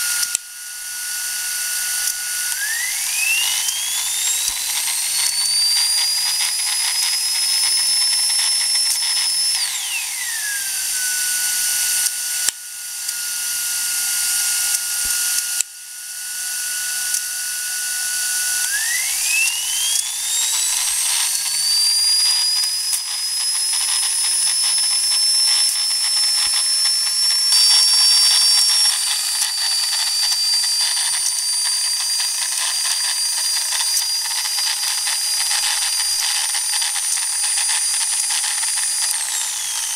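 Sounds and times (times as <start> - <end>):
second lower whine: 0.0 - 39.9
steam turbine whining: 0.0 - 39.9.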